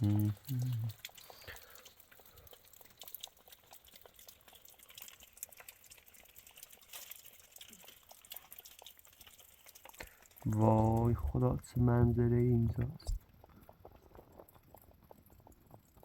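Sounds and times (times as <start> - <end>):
faint water dripping: 0.0 - 16.0.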